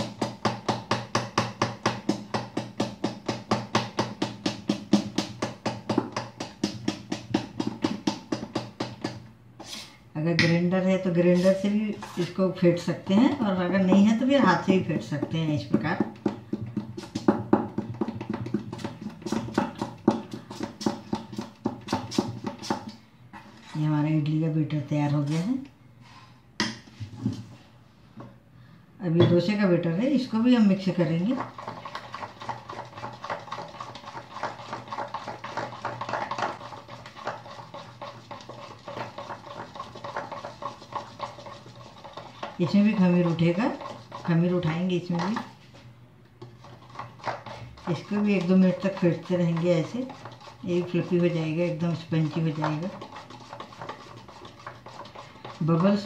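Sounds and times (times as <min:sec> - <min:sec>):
batter beaten by hand in metal bowl: 0:00.0 - 0:09.7, 0:10.3 - 0:23.9, 0:29.2 - 0:56.0.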